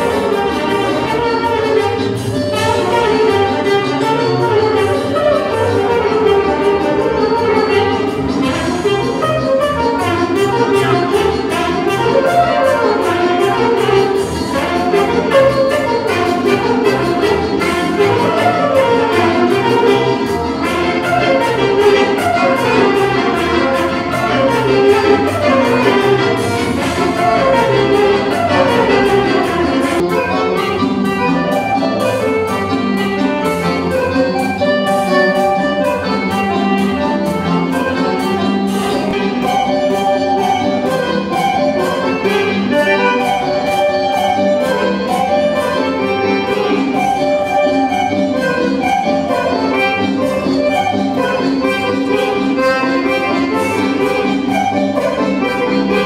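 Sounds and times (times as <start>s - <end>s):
accordion melody: 0.0s - 56.0s
saxophone melody: 0.0s - 56.0s.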